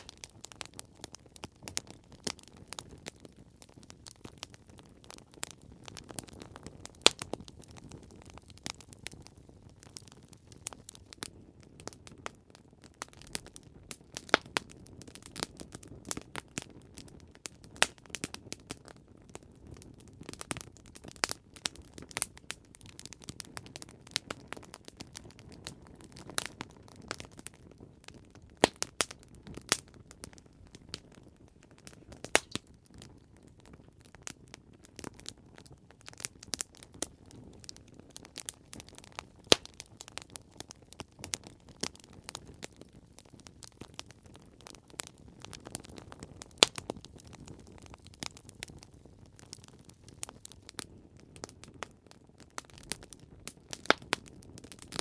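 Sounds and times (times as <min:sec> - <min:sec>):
campfire crackling: 0:00.0 - 0:55.0
fire pops and snaps: 0:00.0 - 0:55.0
low hiss of burning: 0:00.0 - 0:55.0.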